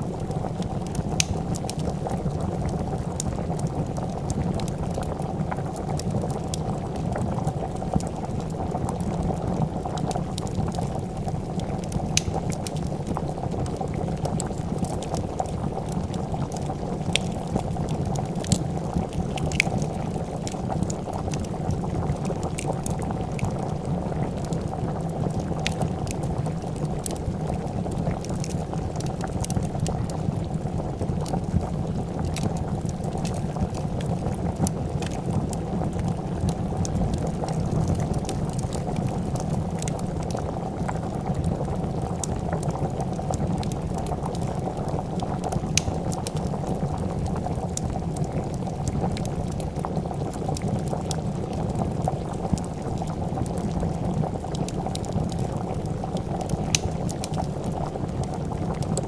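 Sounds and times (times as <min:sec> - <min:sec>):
soup bubbling in a pot: 0:00.0 - 0:59.0
wood fire crackling: 0:00.0 - 0:59.0.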